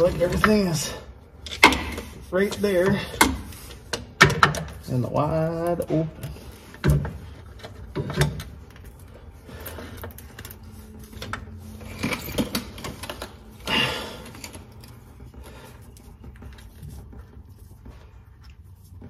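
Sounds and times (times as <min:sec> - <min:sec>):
hand tools clicking and scraping: 0:00.0 - 0:19.0.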